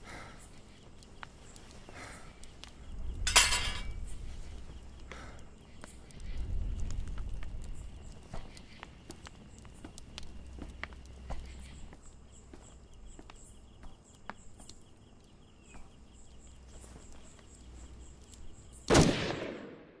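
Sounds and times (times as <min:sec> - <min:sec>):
faint clicks: 0:00.0 - 0:03.2, 0:03.9 - 0:18.9
insect chirping: 0:00.0 - 0:19.0.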